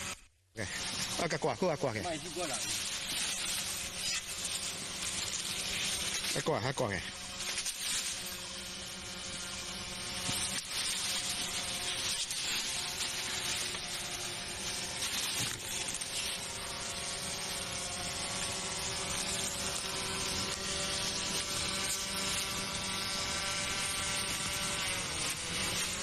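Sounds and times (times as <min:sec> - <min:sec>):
motor humming and whining: 0:00.0 - 0:26.0.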